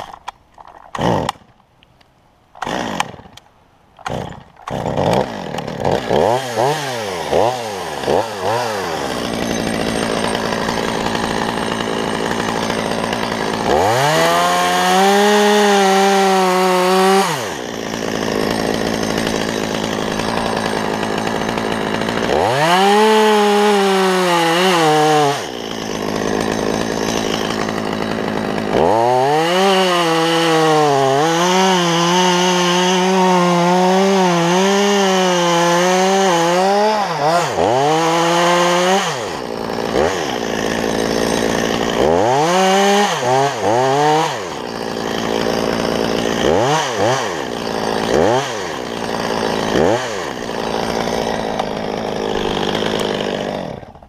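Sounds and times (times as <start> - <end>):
chainsaw cutting wood: 0.0 - 1.7, 2.5 - 54.0
chainsaw revving and idling: 0.9 - 1.5, 2.6 - 3.4, 4.0 - 54.0.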